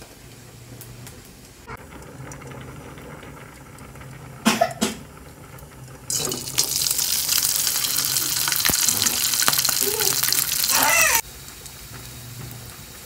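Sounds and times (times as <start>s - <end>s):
fish sizzling in hot oil: 1.7s - 13.0s.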